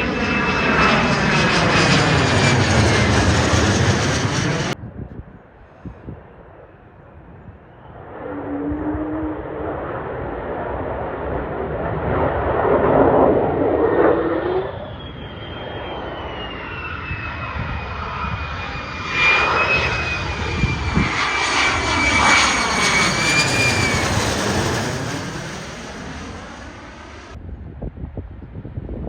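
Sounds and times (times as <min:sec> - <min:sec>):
high jet engine whine: 0:00.0 - 0:27.6
jet rumble: 0:00.0 - 0:29.0.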